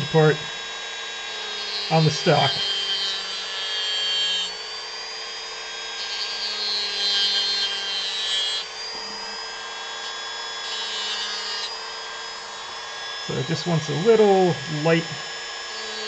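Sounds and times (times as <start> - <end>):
bit grinding into wood: 0.0 - 16.0
rotary tool whining: 0.0 - 16.0.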